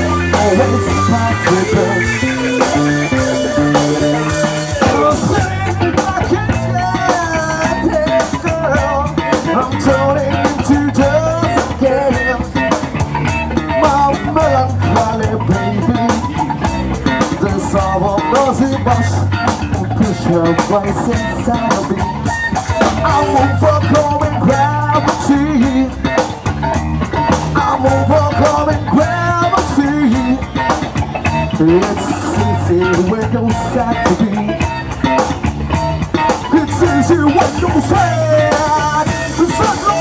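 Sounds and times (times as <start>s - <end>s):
man singing lead vocal: 0.0s - 13.0s, 13.6s - 26.5s, 27.2s - 35.3s, 36.2s - 40.0s
drum kit: 0.0s - 40.0s
electric guitars: 0.0s - 40.0s.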